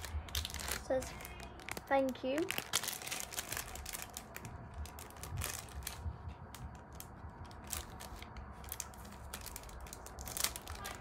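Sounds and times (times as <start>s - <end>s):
plastic bag crackling: 0.0s - 11.0s.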